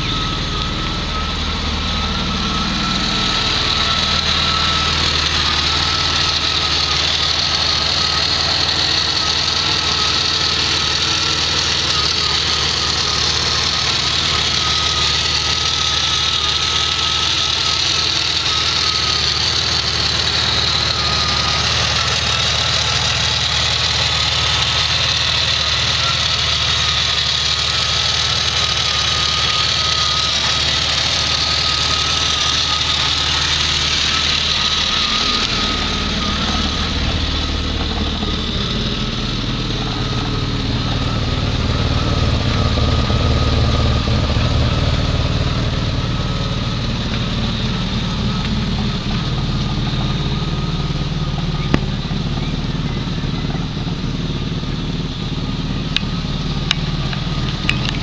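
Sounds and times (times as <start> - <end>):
car engine idling: 0.0 - 58.0
thin steady whine: 0.0 - 58.0.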